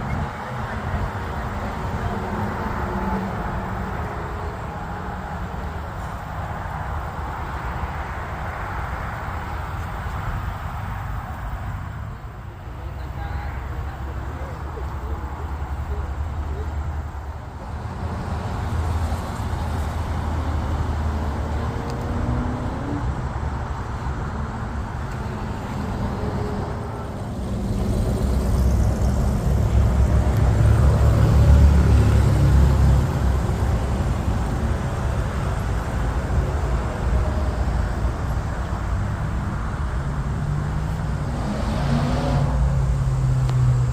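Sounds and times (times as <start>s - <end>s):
car engine rumbling: 0.0s - 43.9s.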